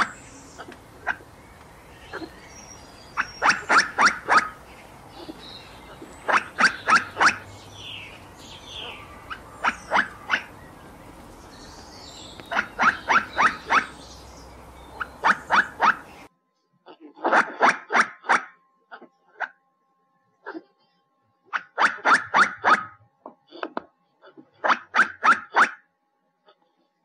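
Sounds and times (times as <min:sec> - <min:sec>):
squirrel barking: 0:00.0 - 0:16.3, 0:16.9 - 0:19.6, 0:21.5 - 0:25.9.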